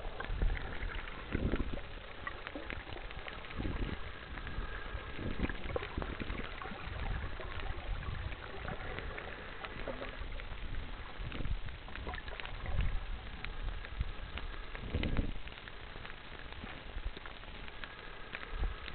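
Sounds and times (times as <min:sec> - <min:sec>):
clicks and crackles: 0:00.0 - 0:18.9
underwater water movement: 0:00.0 - 0:18.9.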